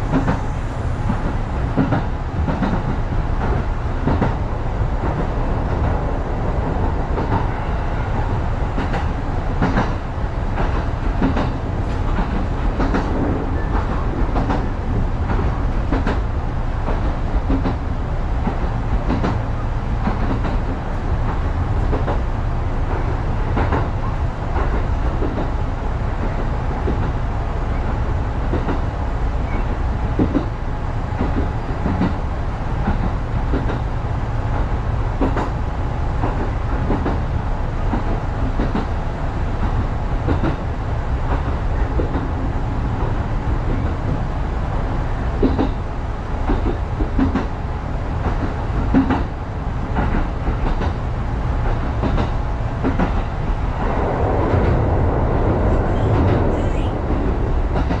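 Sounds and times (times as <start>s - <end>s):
train running gear rumbling: 0.0s - 58.0s.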